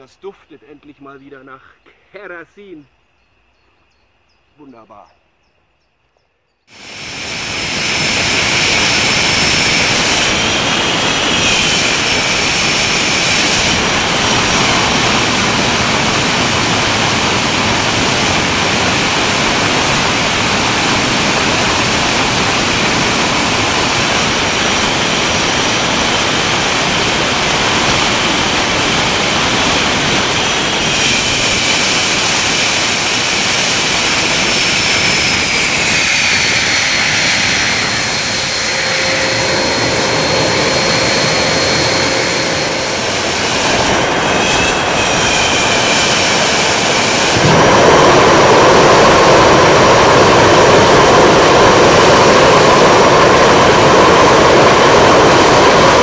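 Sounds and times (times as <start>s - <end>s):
turbojet engine roaring: 6.7s - 56.0s.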